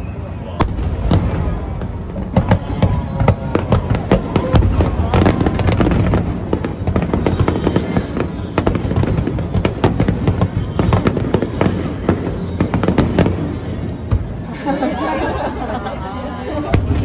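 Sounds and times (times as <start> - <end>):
heavy firework booms: 0.0 - 14.4, 16.7 - 17.0
fireworks bangs and crackles: 0.0 - 14.5, 16.5 - 17.0.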